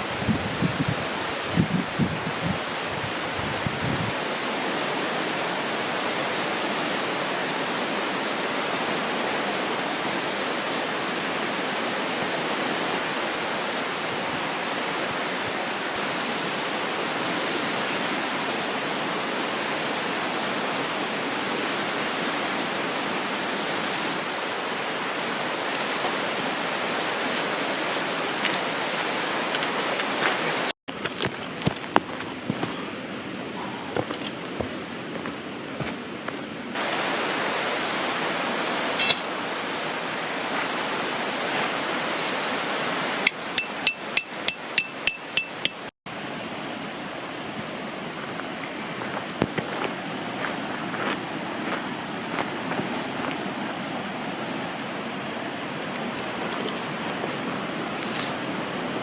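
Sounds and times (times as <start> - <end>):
river flowing: 0.0 - 31.6, 32.3 - 59.0.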